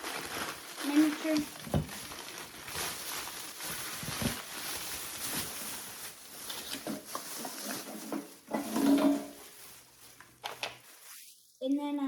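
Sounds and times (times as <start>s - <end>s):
packaging rustling: 0.0s - 11.5s.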